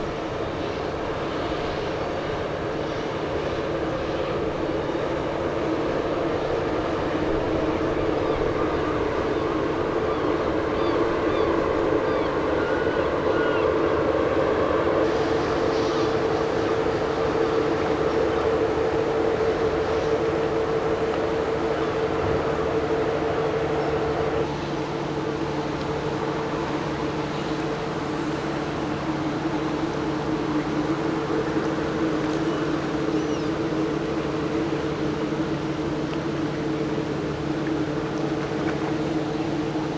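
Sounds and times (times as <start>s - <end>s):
ship diesel engine drone: 0.0s - 39.9s.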